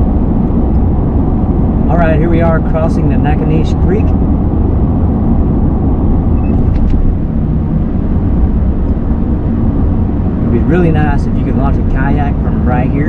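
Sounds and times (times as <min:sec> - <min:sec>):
truck road and engine rumble: 0:00.0 - 0:13.0.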